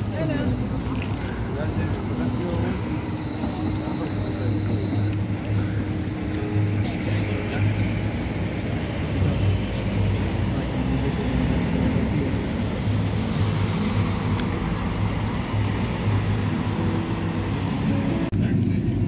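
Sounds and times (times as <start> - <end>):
train running past: 1.5 - 18.3.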